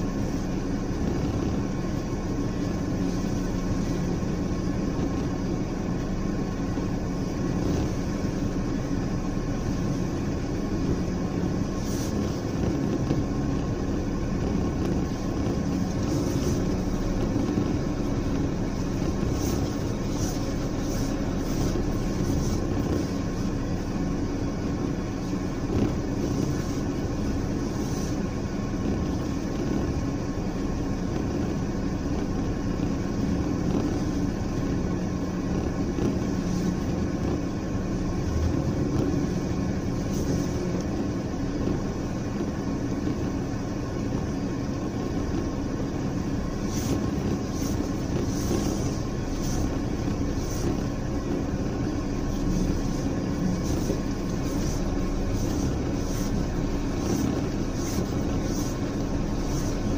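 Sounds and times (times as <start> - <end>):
vehicle engines droning: 0.0 - 59.9.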